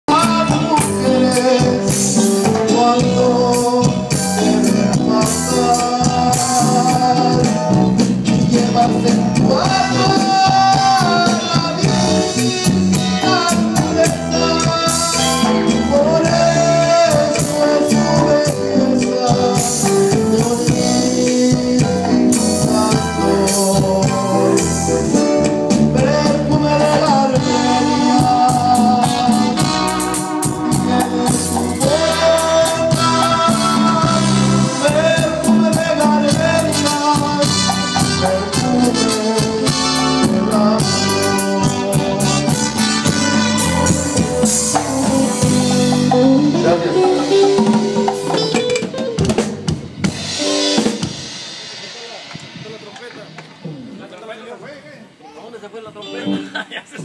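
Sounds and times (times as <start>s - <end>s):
steady percussion: 0.1s - 54.6s.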